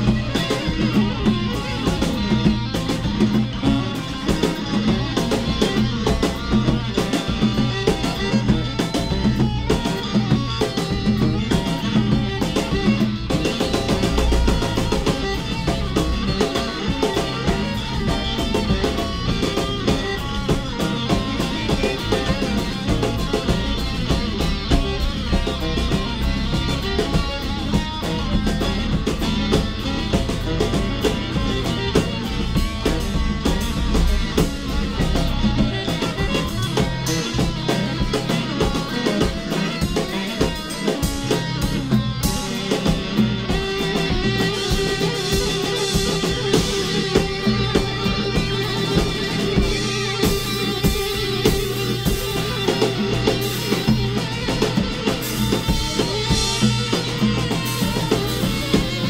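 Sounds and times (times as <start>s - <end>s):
bass guitar: 0.0s - 59.0s
drum kit hits: 0.0s - 59.0s
electric guitars improvising: 0.0s - 59.0s.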